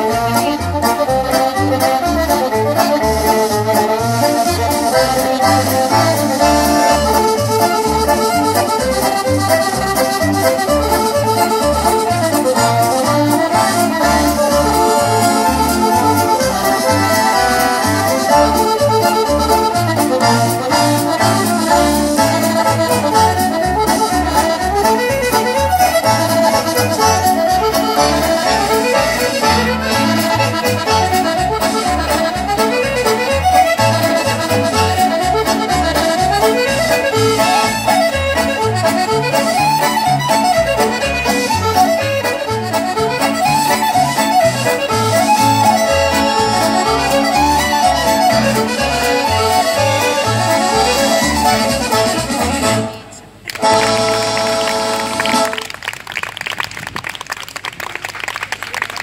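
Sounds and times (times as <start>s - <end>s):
lively traditional dance tune: 0.0s - 59.0s.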